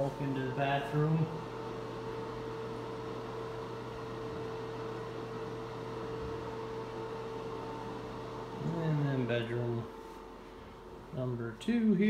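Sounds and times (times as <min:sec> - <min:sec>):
steady background hum with hiss: 0:00.0 - 0:12.0.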